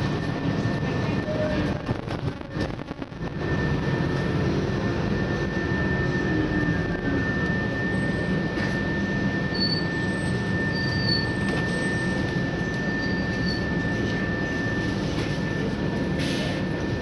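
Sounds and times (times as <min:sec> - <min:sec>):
bus engine running: 0:00.0 - 0:17.0
road and cabin noise: 0:00.0 - 0:17.0
steady high whine: 0:00.0 - 0:17.0.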